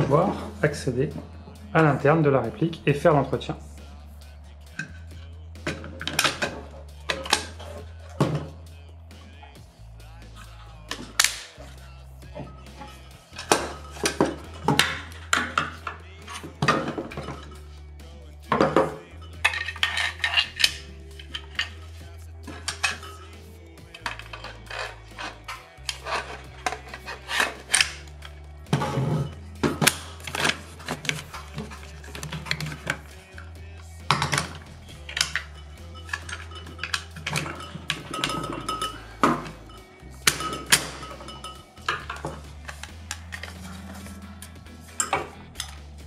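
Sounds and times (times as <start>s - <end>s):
plastic and metal parts clattering: 5.6s - 9.4s, 10.8s - 17.8s, 18.5s - 46.0s.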